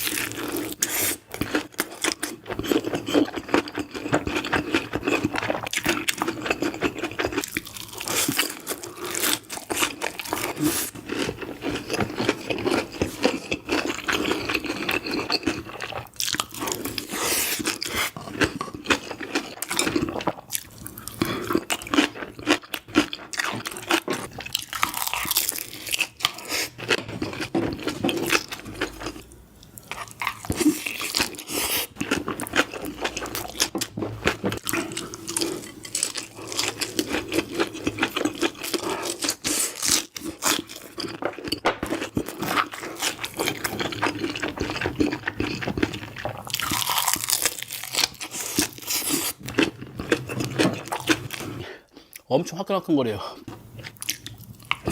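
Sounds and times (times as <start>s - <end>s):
person chewing crunchy food: 0.0s - 52.3s, 53.4s - 54.9s.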